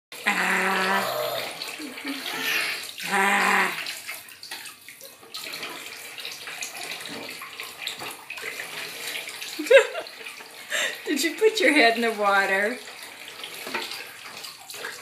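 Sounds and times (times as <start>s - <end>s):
bathwater sloshing and trickling: 0.2s - 15.0s.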